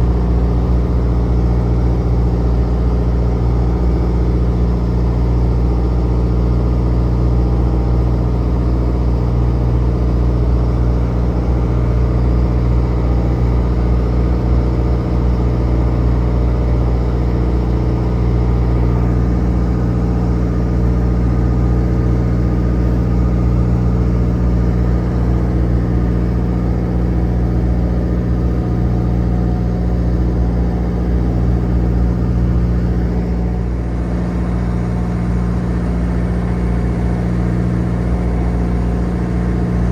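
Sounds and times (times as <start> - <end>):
boat diesel engine droning: 0.0 - 39.9.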